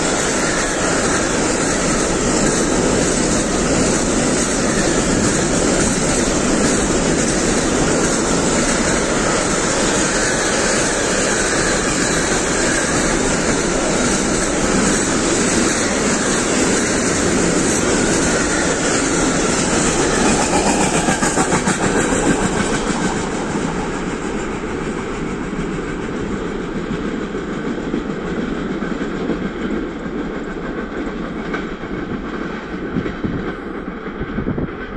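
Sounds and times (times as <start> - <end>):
wheels clattering over rail joints: 0.0 - 33.7.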